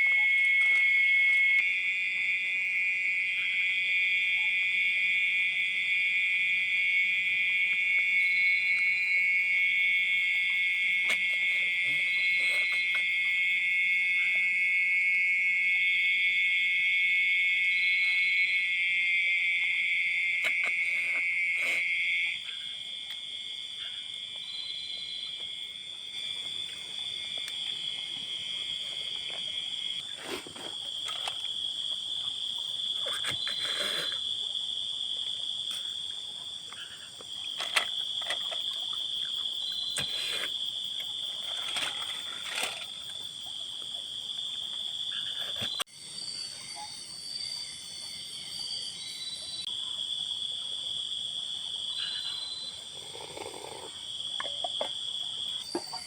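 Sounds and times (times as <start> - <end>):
insects and frogs calling: 0.0 - 56.0.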